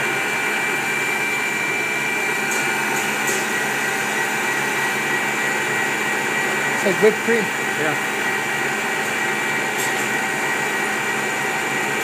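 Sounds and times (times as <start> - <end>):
electric mixer whining: 0.0 - 12.0.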